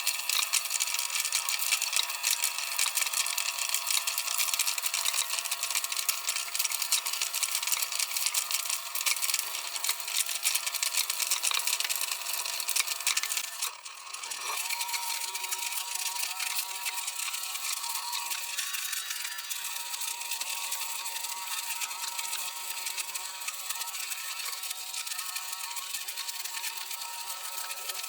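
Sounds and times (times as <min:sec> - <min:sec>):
small motor whining and rattling: 0:00.0 - 0:28.0.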